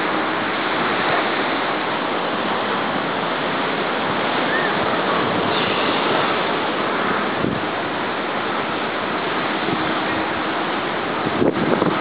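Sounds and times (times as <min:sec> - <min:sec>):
storm surf waves breaking: 0:00.0 - 0:12.0.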